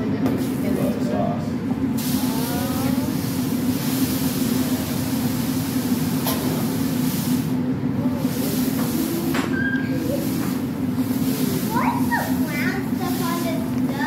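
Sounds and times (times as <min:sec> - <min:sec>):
steady low hum: 0:00.0 - 0:14.0
water sizzling on hot griddle: 0:02.0 - 0:07.5, 0:08.2 - 0:14.0.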